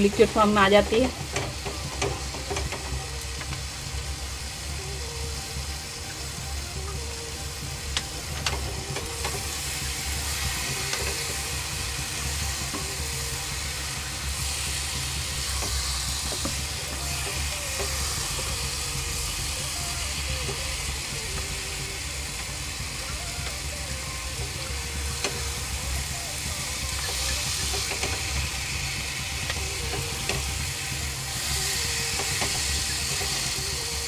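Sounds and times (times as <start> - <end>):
vegetables sizzling in a pan: 0.0 - 34.0.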